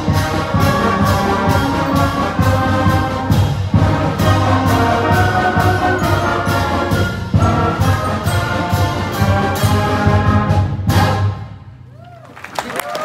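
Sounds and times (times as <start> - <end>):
steady drum beat: 0.0 - 11.5
concert band brass and woodwinds: 0.0 - 11.9.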